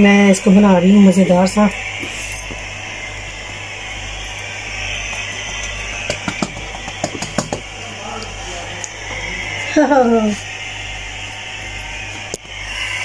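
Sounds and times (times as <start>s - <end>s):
steady kitchen hiss: 0.0s - 13.0s.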